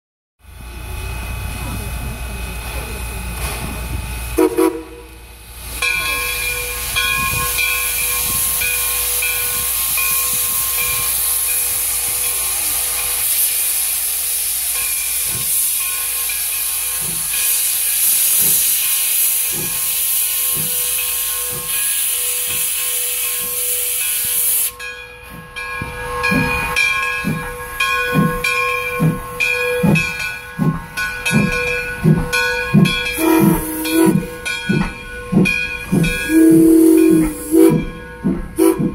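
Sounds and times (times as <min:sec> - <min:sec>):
steam locomotive chuffing: 0:00.5 - 0:38.9
steam hissing: 0:01.0 - 0:38.9.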